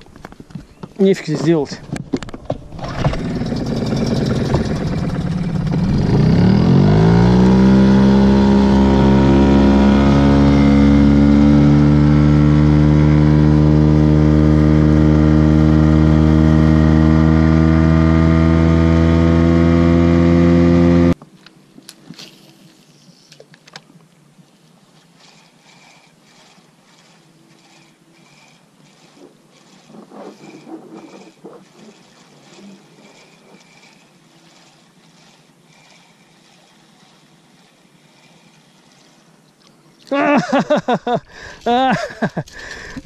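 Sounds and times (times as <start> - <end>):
outboard motor running: 0.0 - 21.2, 24.7 - 43.0.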